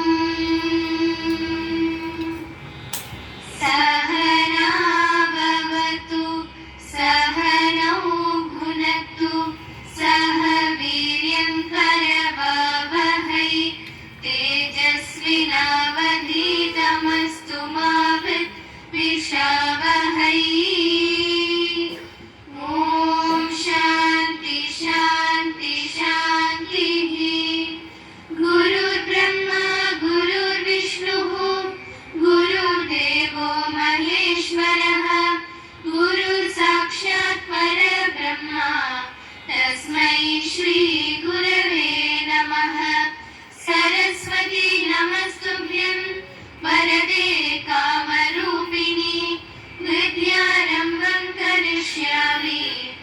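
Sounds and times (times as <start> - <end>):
children singing a prayer: 0.0 - 2.6, 3.5 - 53.0.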